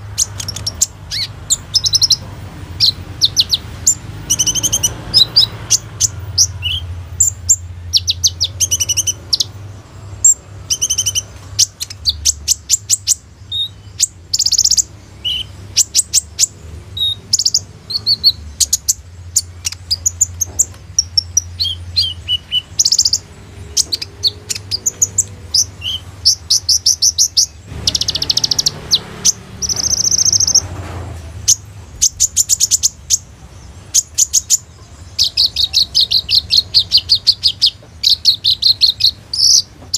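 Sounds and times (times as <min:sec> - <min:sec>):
sunbird singing trills: 0:00.0 - 0:30.7, 0:31.4 - 0:39.9.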